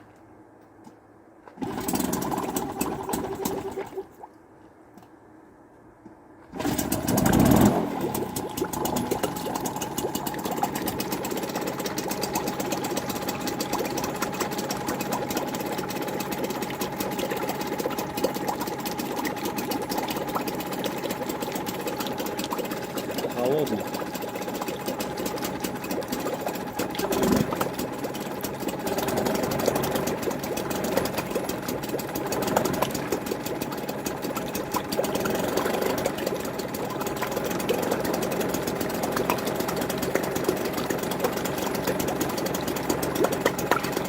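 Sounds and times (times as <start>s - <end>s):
outboard motor starting and running: 1.4s - 4.3s, 6.4s - 44.0s.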